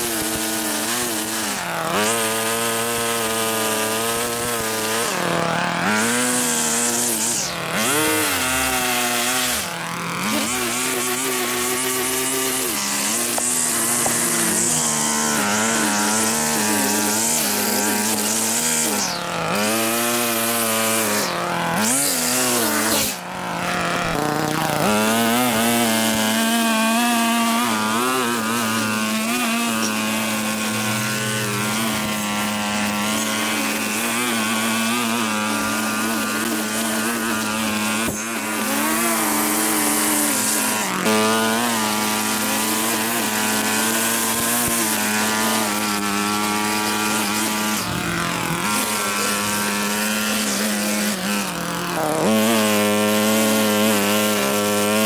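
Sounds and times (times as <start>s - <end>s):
small petrol engine cutting grass: 0.0s - 55.0s.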